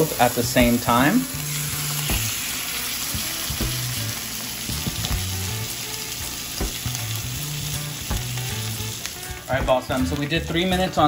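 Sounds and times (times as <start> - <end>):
fish sizzling in a frying pan: 0.0 - 11.0.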